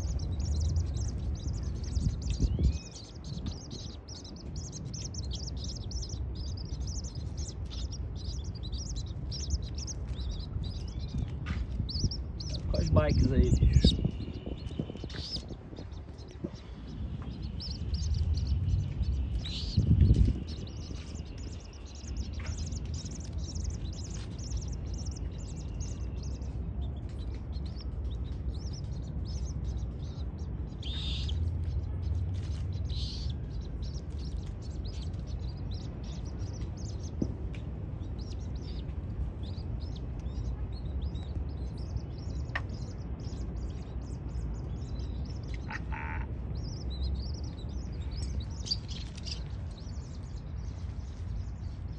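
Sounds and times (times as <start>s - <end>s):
birds chirping: 0.0s - 51.9s
steady low rumble: 0.0s - 51.9s.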